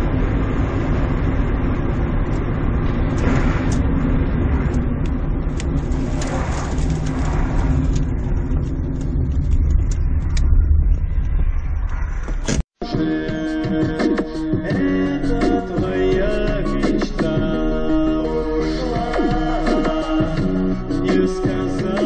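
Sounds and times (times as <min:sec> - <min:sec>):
car engine and road noise: 0:00.0 - 0:12.8, 0:13.6 - 0:22.0.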